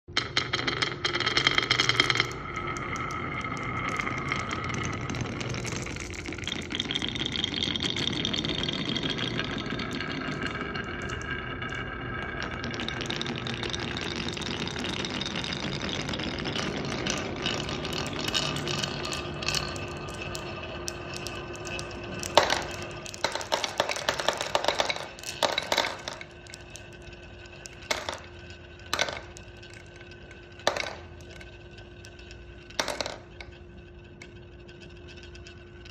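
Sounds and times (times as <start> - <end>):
marbles clicking and clacking: 0.1 - 35.9
marbles rolling on a track: 0.1 - 35.9.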